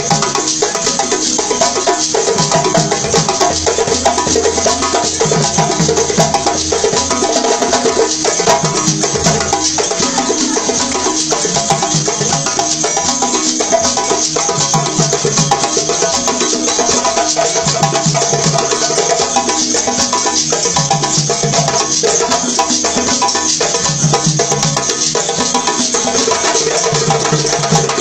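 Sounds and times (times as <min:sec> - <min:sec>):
balafon playing pitched notes: 0:00.0 - 0:28.0
djembe drumming: 0:00.0 - 0:28.0.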